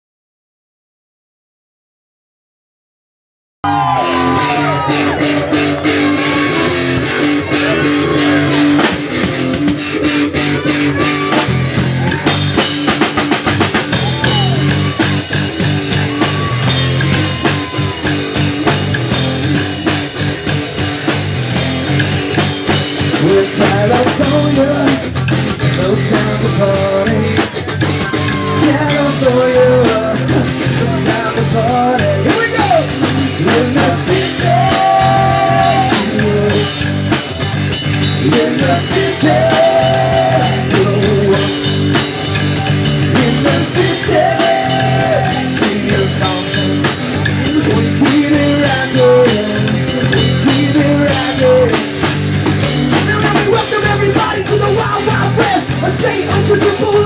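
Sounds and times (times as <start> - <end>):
bass guitar: 3.6 - 57.0
drum kit: 3.6 - 57.0
electric guitars: 3.7 - 57.0.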